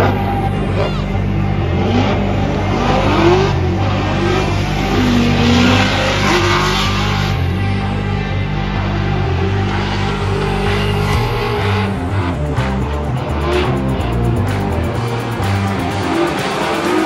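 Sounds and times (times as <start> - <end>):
car engines revving: 0.0 - 17.0
music with low beat: 0.0 - 17.0.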